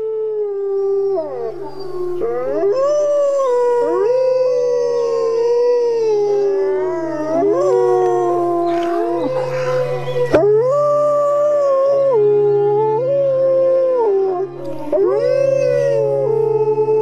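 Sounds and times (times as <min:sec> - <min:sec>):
wolves howling: 0:00.0 - 0:17.0.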